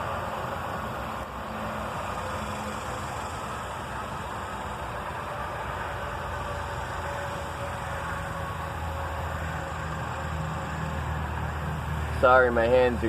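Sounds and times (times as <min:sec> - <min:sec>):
broad steady hiss: 0:00.0 - 0:13.0
low mechanical hum: 0:00.0 - 0:13.0.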